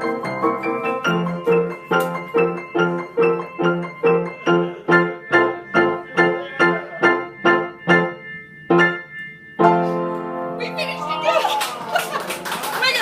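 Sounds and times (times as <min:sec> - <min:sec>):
piano repeated chords: 0:00.0 - 0:11.5.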